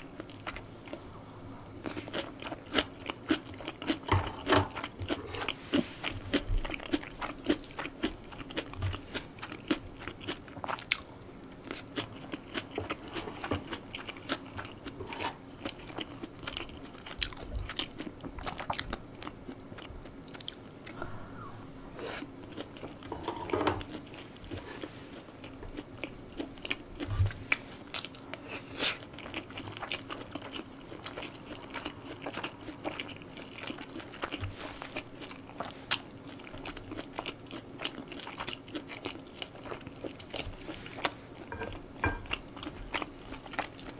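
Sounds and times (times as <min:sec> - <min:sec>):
chewing and biting food: 0:01.8 - 0:21.0, 0:23.8 - 0:43.9.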